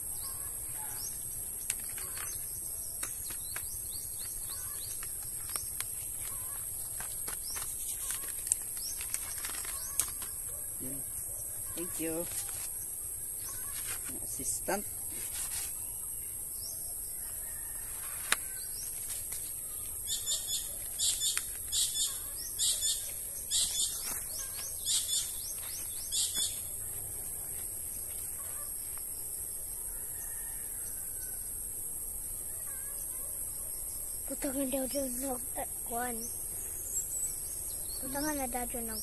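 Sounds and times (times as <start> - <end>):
insects droning: 0.0 - 39.0
small bird chirping: 0.1 - 27.1, 32.5 - 39.0.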